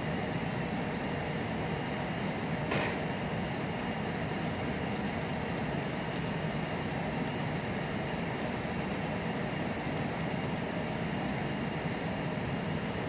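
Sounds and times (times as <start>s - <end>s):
ventilation and computer fans humming: 0.0s - 13.0s.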